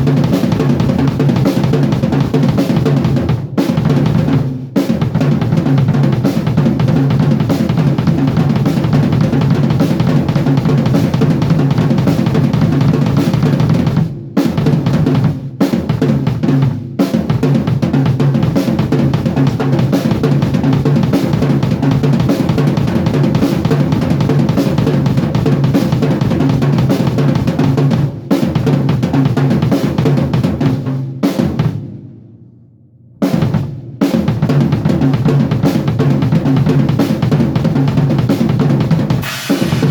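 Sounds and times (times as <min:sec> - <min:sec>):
drum kit playing: 0:00.0 - 0:32.2, 0:33.2 - 0:39.9.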